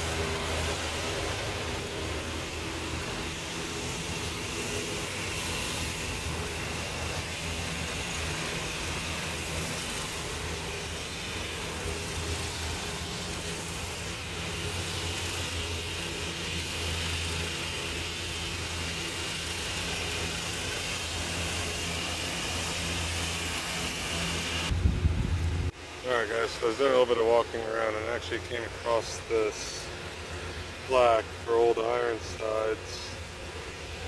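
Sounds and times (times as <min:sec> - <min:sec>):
distant lawn mower engine: 0:00.0 - 0:34.0.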